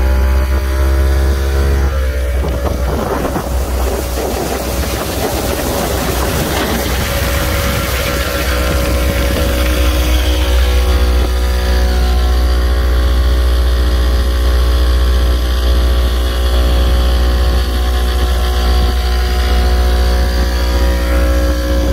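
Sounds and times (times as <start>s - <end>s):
boat wake and spray rushing: 0.0s - 21.9s
outboard motor running: 0.0s - 21.9s.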